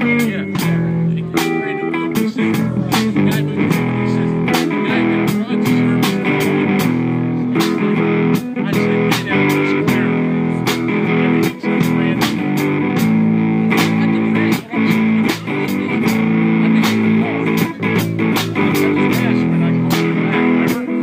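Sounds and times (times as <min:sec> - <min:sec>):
bass: 0:00.0 - 0:21.0
drum beat of sharp hits: 0:00.0 - 0:21.0
guitar: 0:00.0 - 0:21.0.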